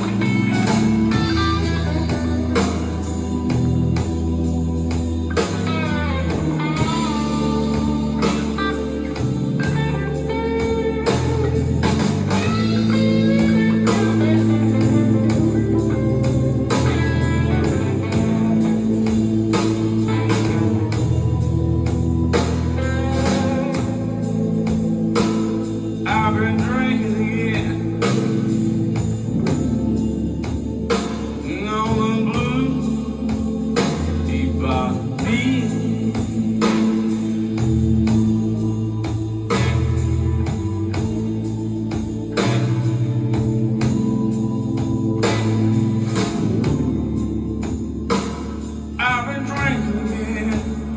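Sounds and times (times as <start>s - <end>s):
blues music with slide guitar: 0.0s - 50.9s.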